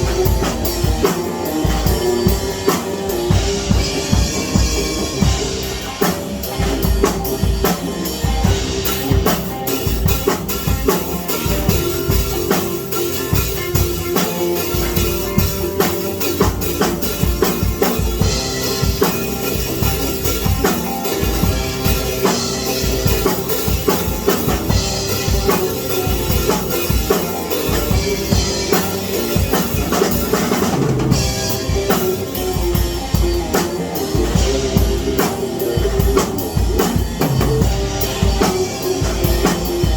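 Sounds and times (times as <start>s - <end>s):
drum kit music: 0.0s - 39.9s.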